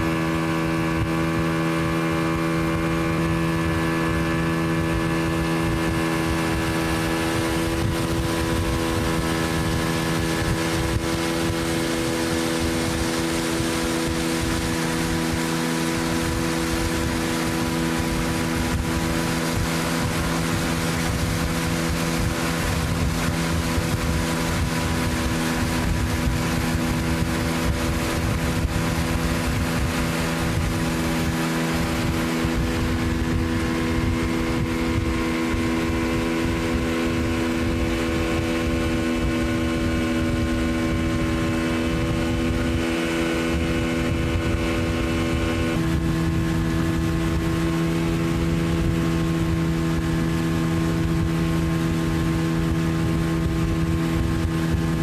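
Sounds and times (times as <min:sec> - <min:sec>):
boat motor humming: 0:00.0 - 0:55.0
rushing wind and water: 0:00.0 - 0:55.0.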